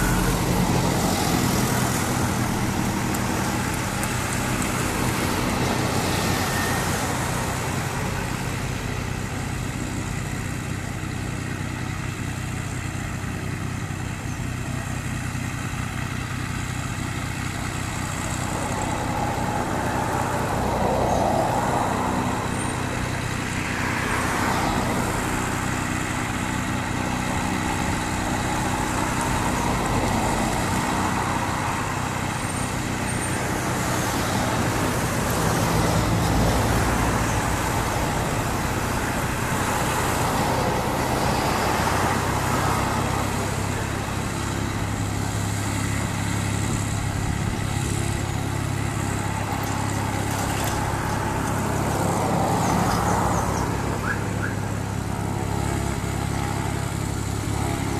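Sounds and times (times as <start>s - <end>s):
propeller plane engine running: 0.0s - 57.9s.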